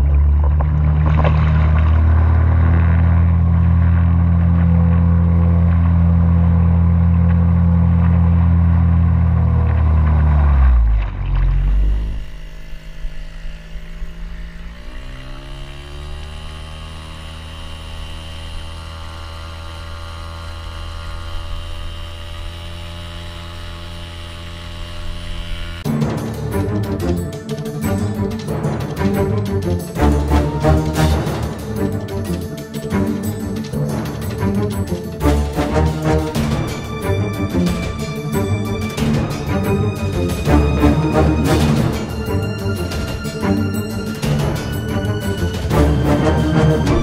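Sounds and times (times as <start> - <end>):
outboard motor droning: 0.0 - 47.0.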